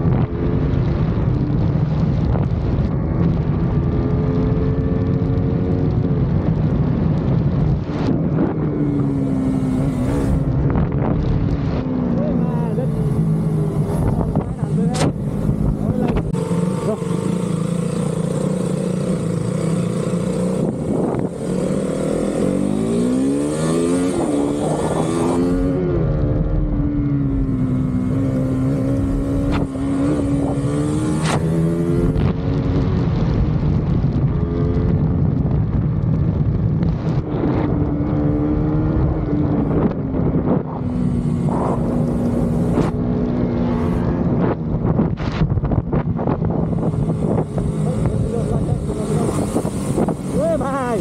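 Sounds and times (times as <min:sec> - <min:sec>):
motorcycle engine accelerating: 0:00.0 - 0:51.0
wind on microphone: 0:00.0 - 0:51.0.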